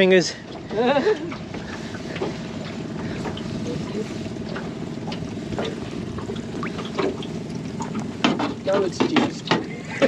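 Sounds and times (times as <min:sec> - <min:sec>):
outboard motor running: 0:00.0 - 0:10.0
knocks and splashes: 0:00.4 - 0:10.0.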